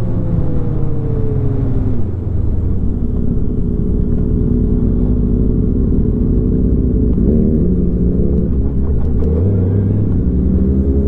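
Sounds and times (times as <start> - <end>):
heavy low rumble: 0.0 - 11.0
motorcycle engine riding: 0.0 - 11.0.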